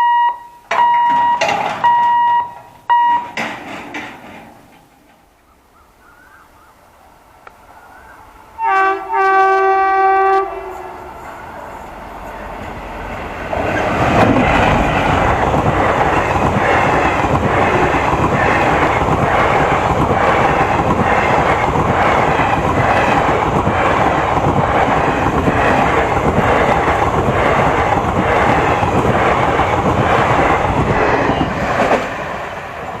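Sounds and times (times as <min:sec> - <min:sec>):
train wheels rumbling on rails: 0:00.7 - 0:05.4, 0:08.8 - 0:33.0.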